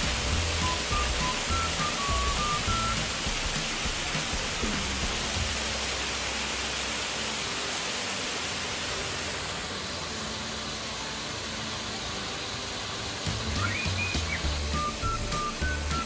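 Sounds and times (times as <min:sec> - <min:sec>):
waterfall splashing into pool: 0:00.0 - 0:16.0.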